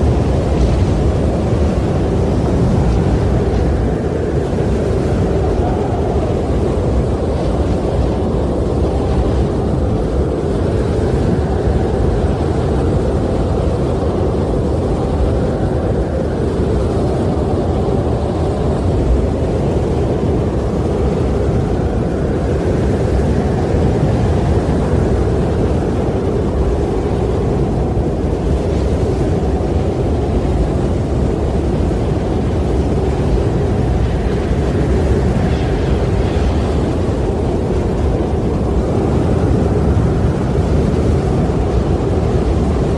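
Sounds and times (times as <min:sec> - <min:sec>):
rushing gusty wind: 0:00.0 - 0:42.9.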